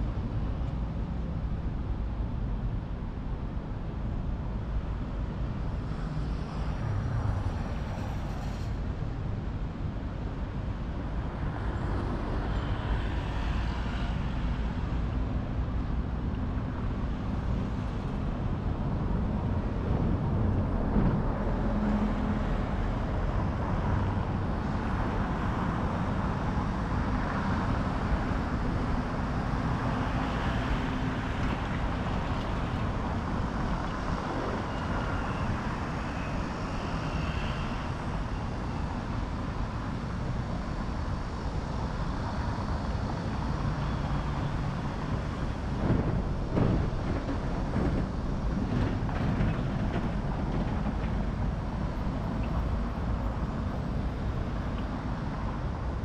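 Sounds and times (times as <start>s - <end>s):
road traffic passing: 4.1s - 56.0s.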